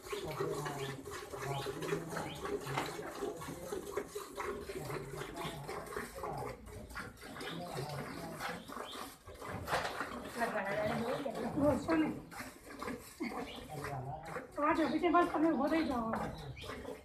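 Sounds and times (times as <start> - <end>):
milk squirting into metal pail: 0.0 - 17.0.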